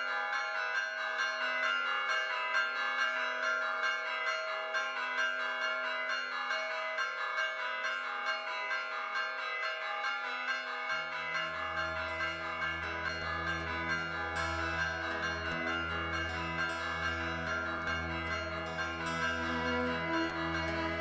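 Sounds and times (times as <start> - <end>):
church bells pealing: 0.3 - 21.0.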